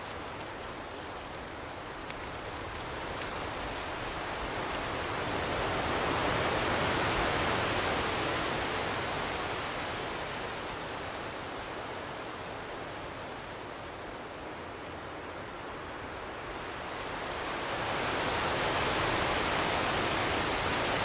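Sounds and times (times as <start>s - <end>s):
wind rustling leaves: 0.0s - 21.0s.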